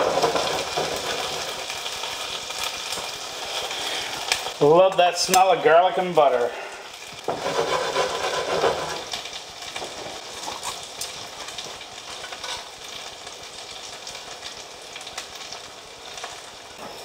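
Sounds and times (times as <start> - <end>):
food sizzling in skillet: 0.0 - 17.0.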